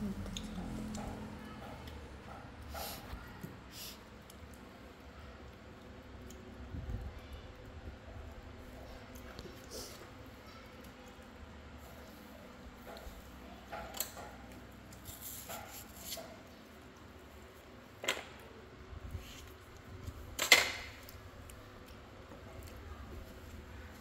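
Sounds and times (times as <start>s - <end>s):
monkeys eating fruit: 0.0s - 24.0s.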